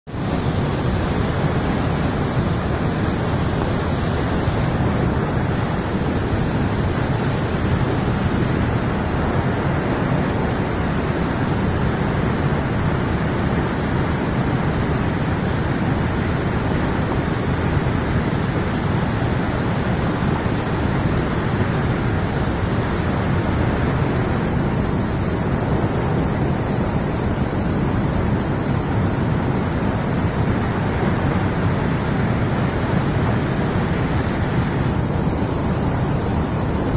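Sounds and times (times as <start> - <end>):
waterfall rushing: 0.1 - 36.9.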